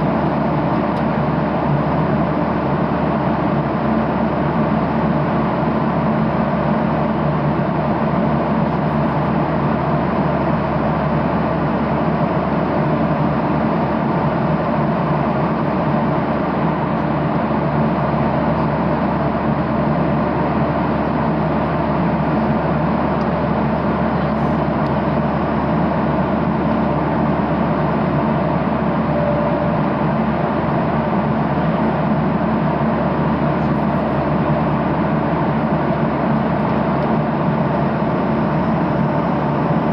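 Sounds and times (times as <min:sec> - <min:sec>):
jet engines humming: 0:00.0 - 0:39.9.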